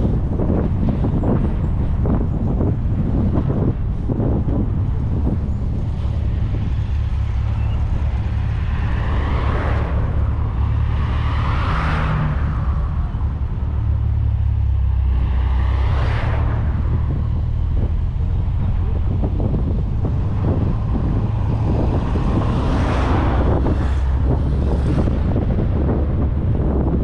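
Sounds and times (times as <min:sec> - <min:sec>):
car engine and road rumble: 0:00.0 - 0:27.0
vehicles passing close by: 0:00.0 - 0:27.0
wind on microphone: 0:00.0 - 0:27.0.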